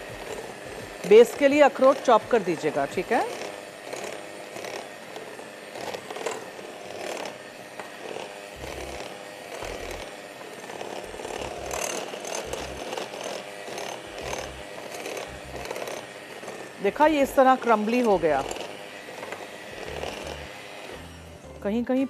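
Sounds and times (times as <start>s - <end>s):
electric hand mixer running: 0.0s - 22.0s.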